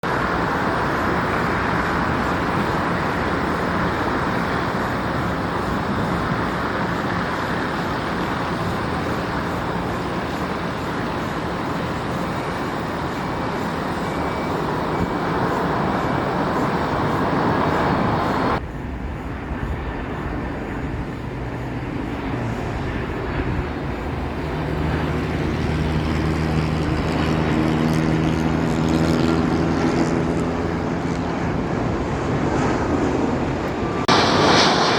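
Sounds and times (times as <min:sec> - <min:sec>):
airliner engines humming: 0:00.0 - 0:34.9
road traffic roar: 0:00.0 - 0:34.9
wind: 0:00.0 - 0:34.9.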